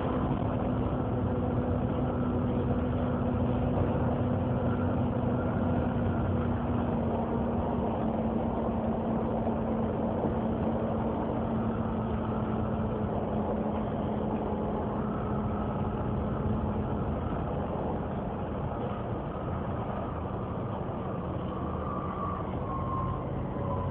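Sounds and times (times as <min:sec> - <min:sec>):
bus engine idling: 0:00.0 - 0:23.9
engine cooling fan roaring: 0:00.0 - 0:23.9.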